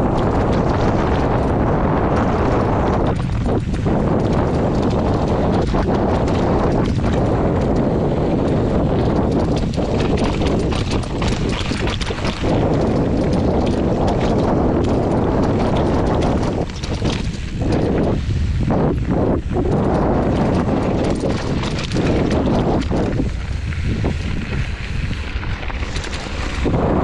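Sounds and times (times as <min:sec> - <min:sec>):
bike rattling over bumps: 0:00.0 - 0:27.0
tyres crunching over loose ground: 0:00.0 - 0:27.0.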